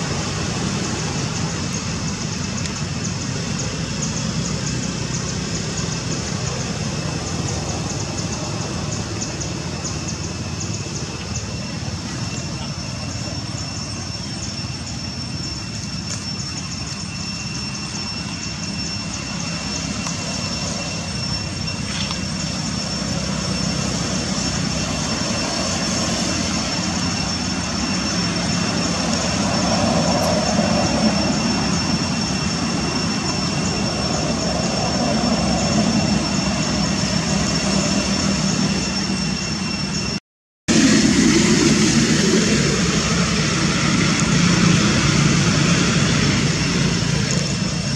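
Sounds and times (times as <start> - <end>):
steady high-pitched tones: 0.0 - 47.9.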